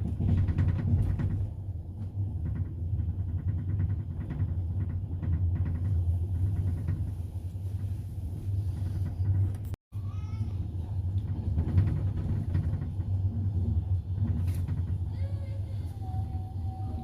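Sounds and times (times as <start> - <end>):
wheels clacking over rail joints: 0.0 - 9.8, 10.8 - 15.9
train carriage rumble: 0.0 - 17.0.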